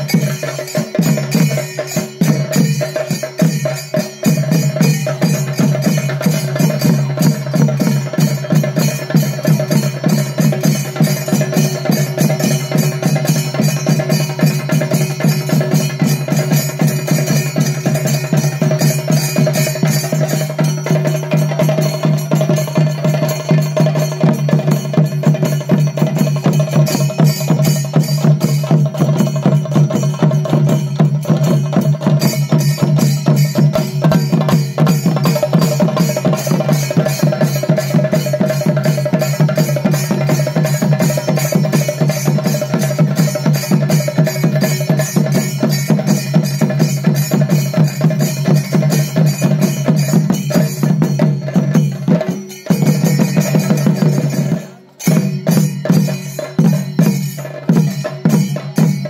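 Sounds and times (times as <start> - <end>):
fast drumming with sticks: 0.0 - 59.0
ringing cymbals: 0.0 - 59.0.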